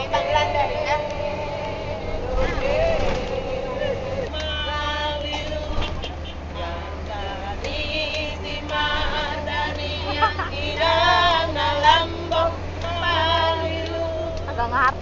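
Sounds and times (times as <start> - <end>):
bus engine humming: 0.0 - 15.0
women singing together: 0.0 - 15.0.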